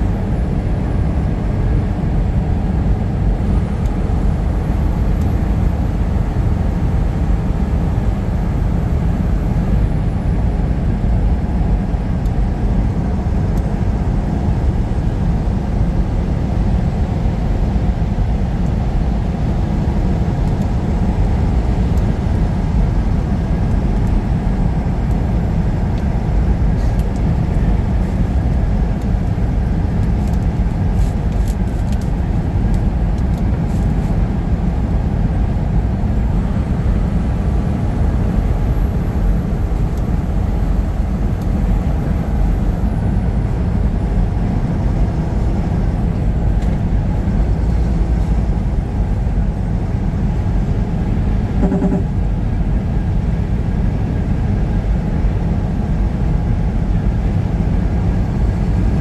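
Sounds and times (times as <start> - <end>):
truck engine and tyres rumbling: 0.0 - 59.0.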